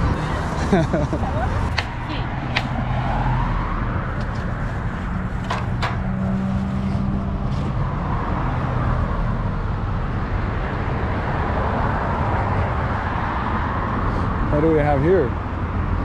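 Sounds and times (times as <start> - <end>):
cars passing: 0.0 - 16.0
low traffic rumble: 0.0 - 16.0.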